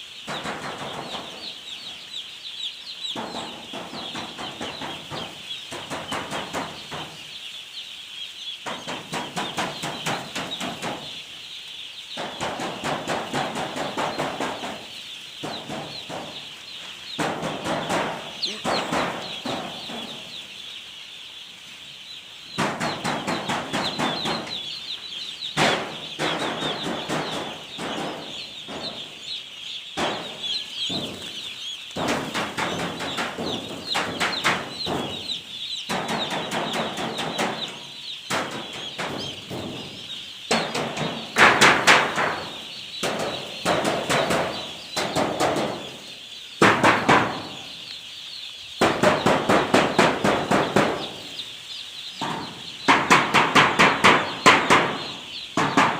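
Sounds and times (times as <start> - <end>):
chickens clucking and squawking: 0.0 - 55.9
chicks chirping and peeping: 0.0 - 55.9.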